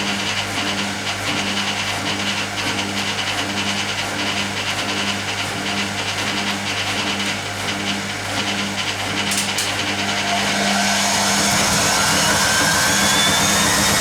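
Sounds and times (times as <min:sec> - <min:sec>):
washing machine motor and pump hum: 0:00.0 - 0:14.0.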